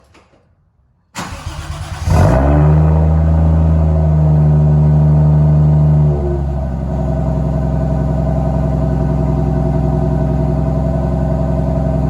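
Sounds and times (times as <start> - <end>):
car engine starting and idling: 1.1 - 12.0.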